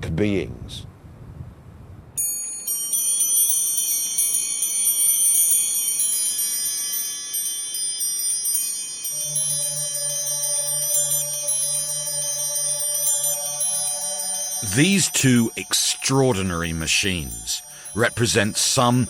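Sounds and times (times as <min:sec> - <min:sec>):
high bell-like chimes: 0:02.2 - 0:19.0.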